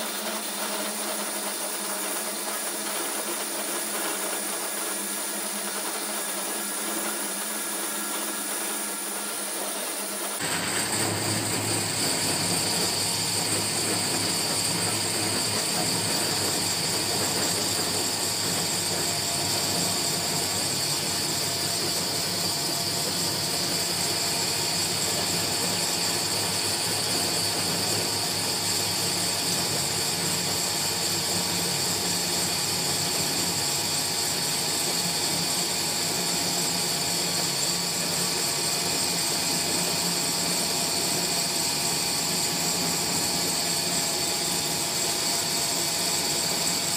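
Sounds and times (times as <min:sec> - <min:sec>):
high-pitched whine: 0:00.0 - 0:46.9
pellet mill humming: 0:00.0 - 0:46.9.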